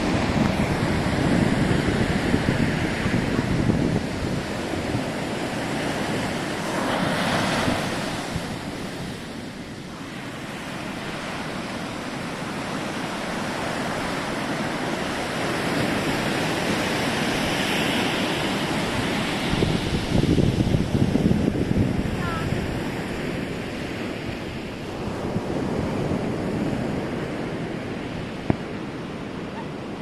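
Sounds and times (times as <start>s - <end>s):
ocean surf breaking: 0.0s - 30.0s
wind buffeting microphone: 0.0s - 30.0s.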